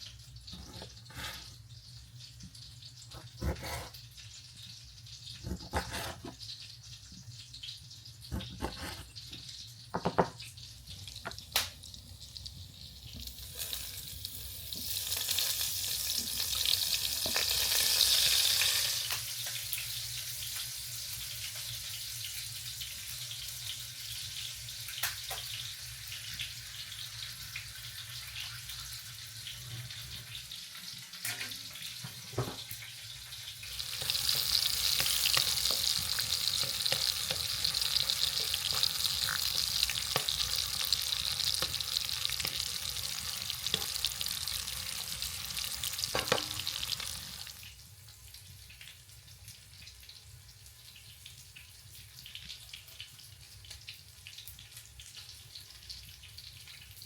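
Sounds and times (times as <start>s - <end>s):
food sizzling in a frying pan: 0.0s - 57.0s.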